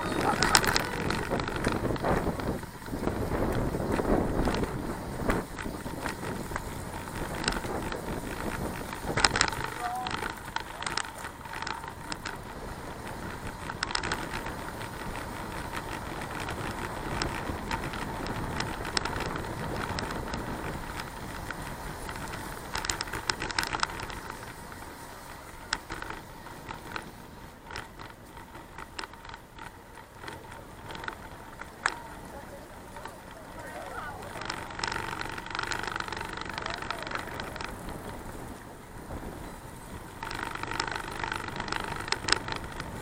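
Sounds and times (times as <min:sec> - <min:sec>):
bicycle clicks and rattles: 0:00.0 - 0:43.0
bicycle rolling noise: 0:00.0 - 0:43.0.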